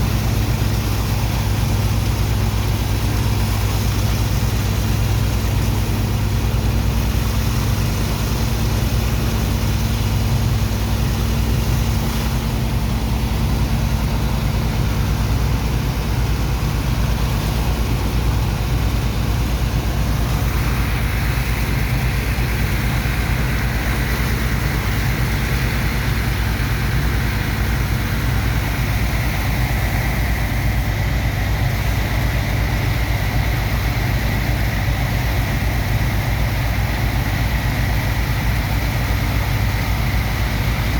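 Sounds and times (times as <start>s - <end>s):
heavy diesel pump engine: 0.0s - 40.9s.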